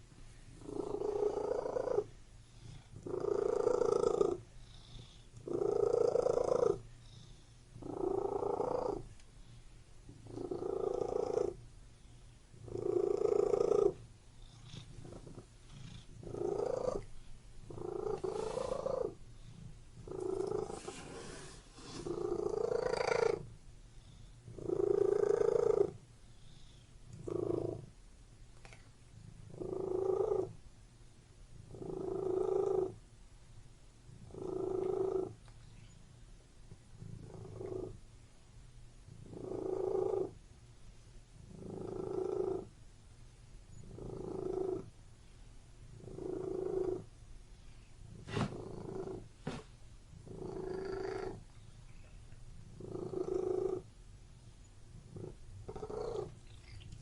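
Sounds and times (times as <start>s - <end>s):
cat purring: 0.0s - 28.0s, 28.6s - 30.6s, 31.5s - 33.0s, 34.1s - 36.0s, 36.9s - 38.0s, 39.1s - 40.4s, 41.3s - 42.8s, 43.7s - 45.0s, 45.8s - 53.9s, 54.9s - 57.0s.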